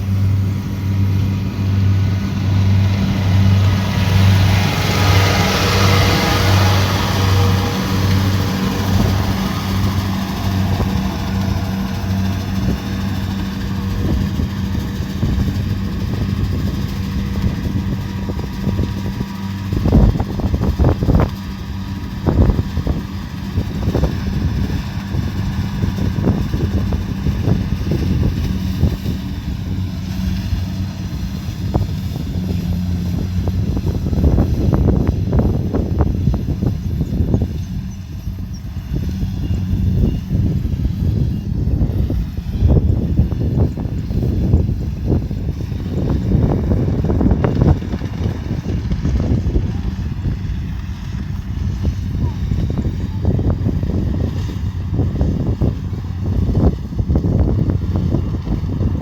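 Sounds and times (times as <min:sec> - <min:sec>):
combine harvester engine humming: 0:00.0 - 0:59.0.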